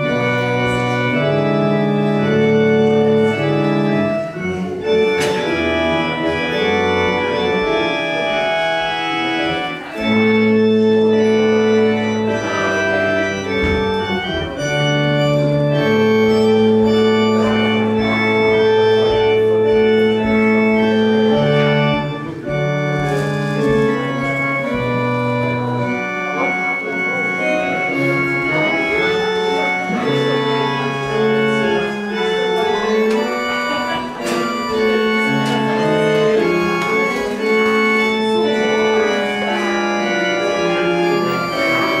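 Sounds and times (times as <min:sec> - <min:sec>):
organ playing sustained chords: 0:00.0 - 0:42.0.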